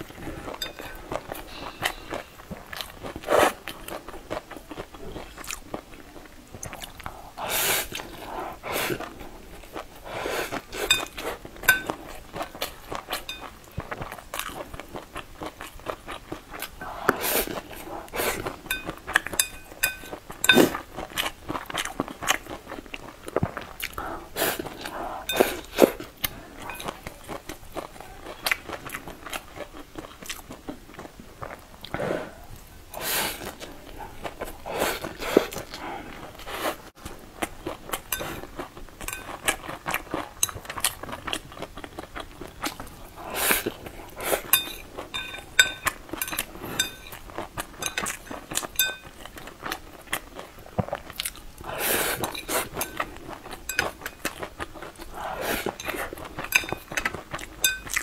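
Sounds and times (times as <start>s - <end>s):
wet chewing with crunches: 0.0s - 58.0s.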